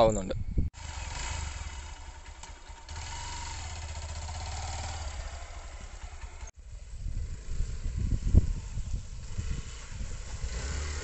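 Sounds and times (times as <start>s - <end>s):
motorcycle engine running at low revs: 0.8s - 11.0s.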